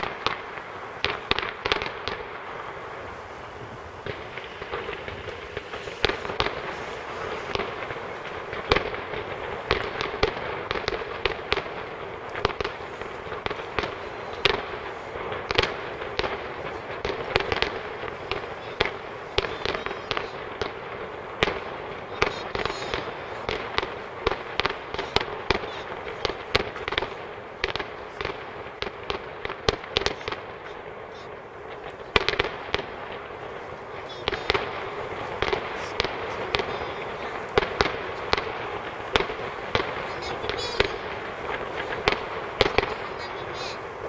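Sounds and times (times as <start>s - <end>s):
continuous rumbling haze: 0.0s - 44.0s
firework shells bursting: 0.0s - 44.0s.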